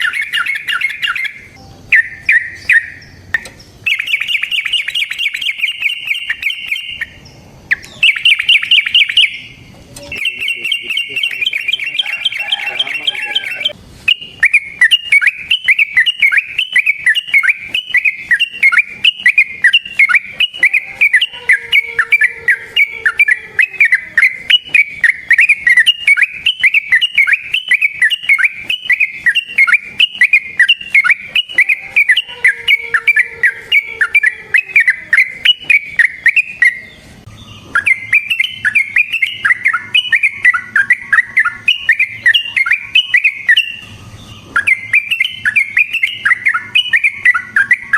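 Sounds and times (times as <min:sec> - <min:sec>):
bird chattering whistled song: 0:00.0 - 0:47.9.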